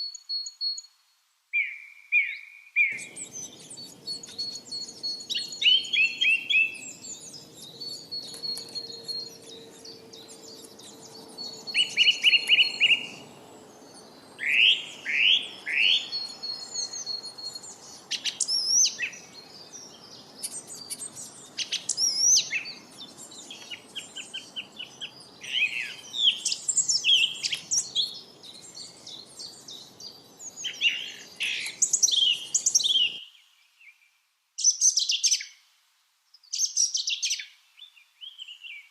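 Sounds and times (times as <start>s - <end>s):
lovebirds chirping: 1.6s - 34.0s.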